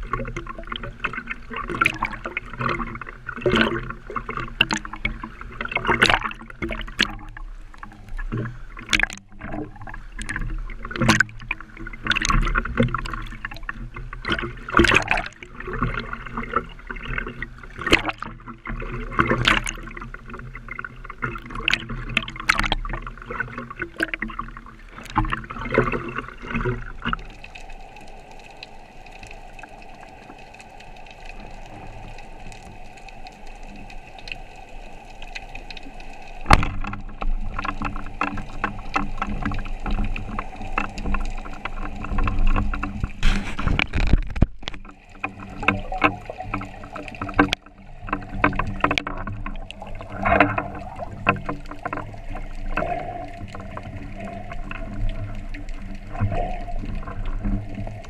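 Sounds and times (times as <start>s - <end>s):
underwater water noise: 0.0s - 58.0s.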